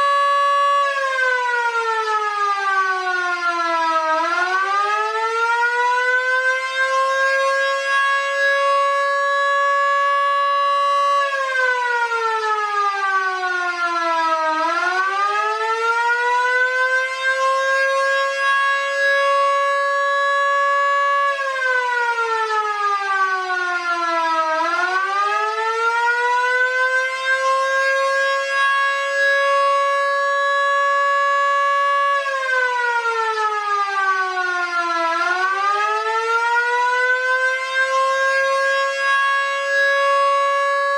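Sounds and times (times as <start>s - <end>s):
electric sirens wailing: 0.0s - 40.9s.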